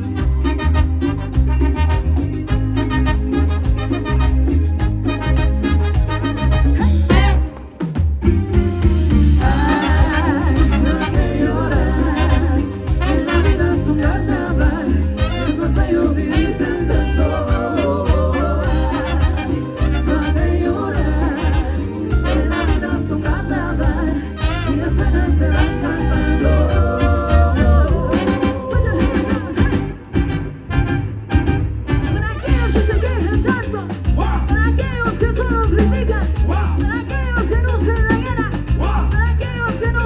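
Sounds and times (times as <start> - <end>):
live latin dance band: 0.0 - 40.0.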